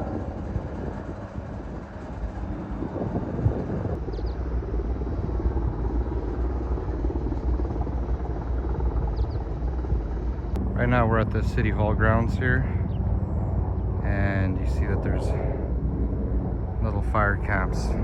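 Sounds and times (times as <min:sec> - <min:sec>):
helicopter rotor and engine rumble: 0:00.0 - 0:18.0.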